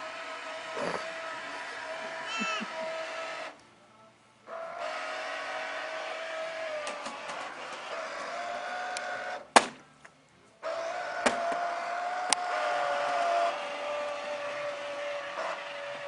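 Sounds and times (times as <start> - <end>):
toy boat motor whining: 0.0 - 3.6, 4.5 - 9.4, 10.7 - 16.0.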